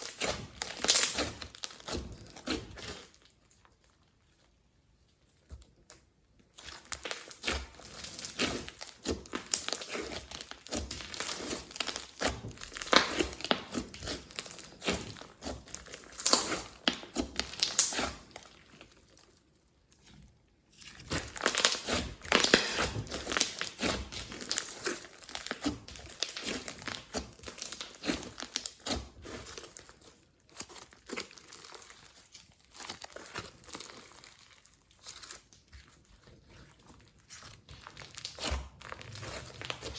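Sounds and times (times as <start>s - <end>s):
slime squeezed crackling: 0.0s - 4.5s, 6.6s - 19.9s, 20.7s - 39.9s.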